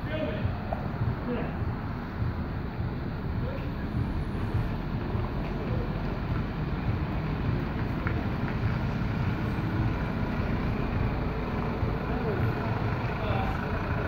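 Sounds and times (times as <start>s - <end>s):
lorry diesel engine rumbling: 0.0s - 14.0s.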